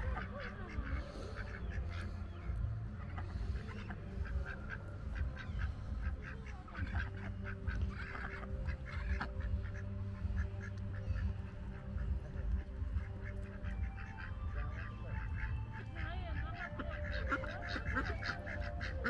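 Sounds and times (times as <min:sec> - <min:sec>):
ducks quacking: 0:00.0 - 0:19.0
steady low hum: 0:00.0 - 0:19.0.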